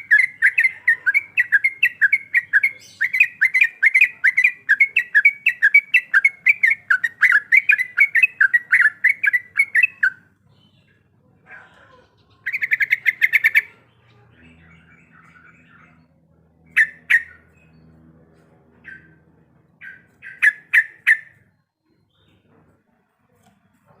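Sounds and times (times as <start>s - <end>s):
bird chirping song: 0.0s - 24.0s.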